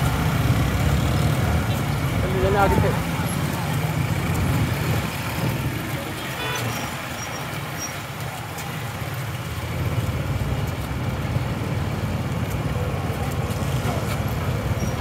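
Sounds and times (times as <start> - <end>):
motorcycle engines running: 0.0 - 15.0
street traffic: 0.0 - 15.0.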